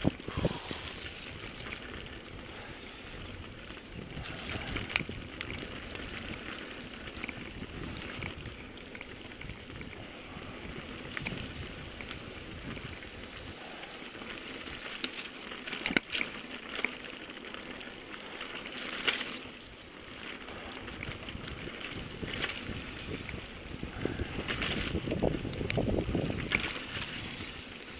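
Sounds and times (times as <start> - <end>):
bike rattling over bumps: 0.0 - 27.9
bike tyres rushing on dirt: 0.0 - 27.9.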